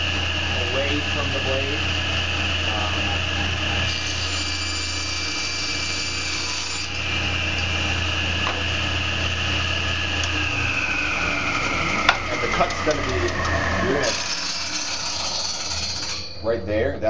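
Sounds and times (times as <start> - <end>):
table saw cutting a board: 0.0 - 16.5.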